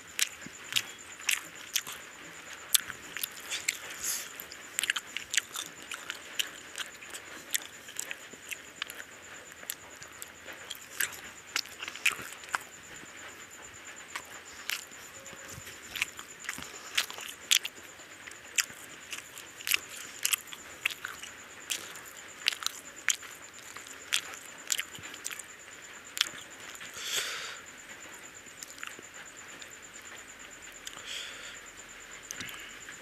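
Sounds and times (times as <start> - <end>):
person chewing food: 0.0 - 27.4, 28.0 - 31.4, 32.2 - 33.0
faint high-pitched whine: 0.0 - 33.0.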